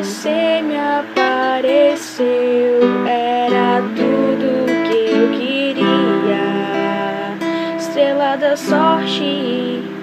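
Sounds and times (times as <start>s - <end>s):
acoustic guitar strumming: 0.0s - 10.0s
woman singing wordless melody: 0.0s - 10.0s.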